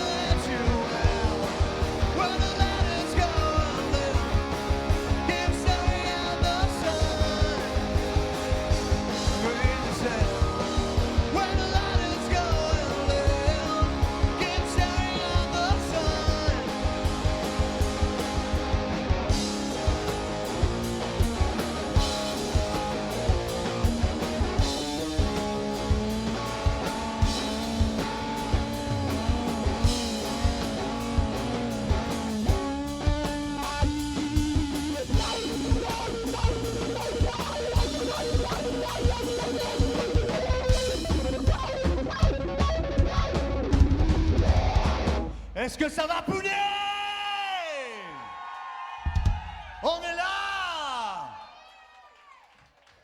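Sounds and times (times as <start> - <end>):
drum kit beat: 0.0 - 45.4, 49.1 - 49.7
lead electric guitar: 0.0 - 45.6.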